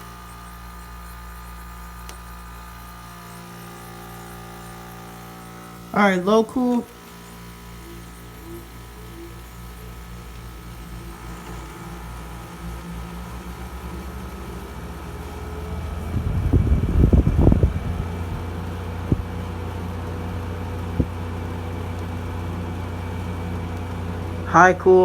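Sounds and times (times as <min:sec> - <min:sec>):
air conditioner rattle: 0:00.0 - 0:24.7
air conditioner humming: 0:00.0 - 0:25.0
air conditioner clicks: 0:00.8 - 0:24.3.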